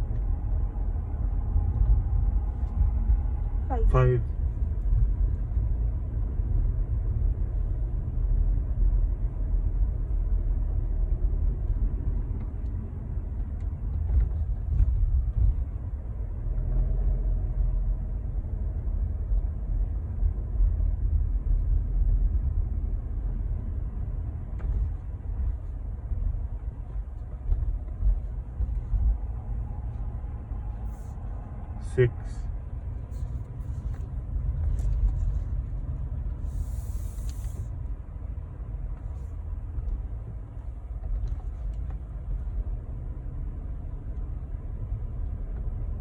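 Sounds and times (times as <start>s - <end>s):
car cabin engine rumble: 0.0s - 46.0s.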